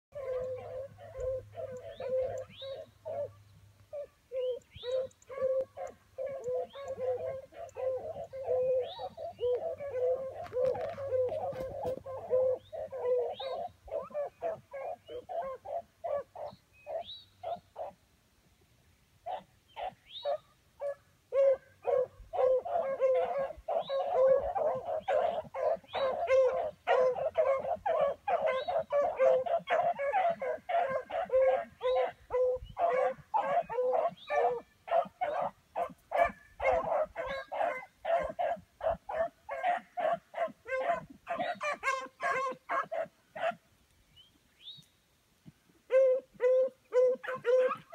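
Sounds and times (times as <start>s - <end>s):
hounds baying: 0.1s - 18.0s, 19.2s - 43.6s, 45.9s - 47.9s.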